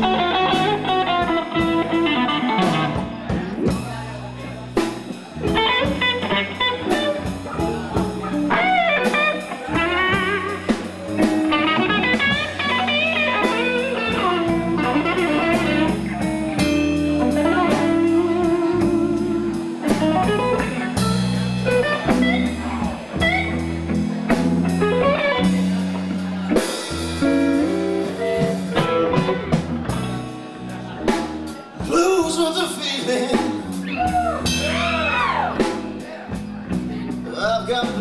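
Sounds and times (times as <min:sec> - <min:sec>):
bass line: 0:00.0 - 0:38.0
blues guitar lead: 0:00.0 - 0:38.0
drum kit: 0:00.0 - 0:38.0.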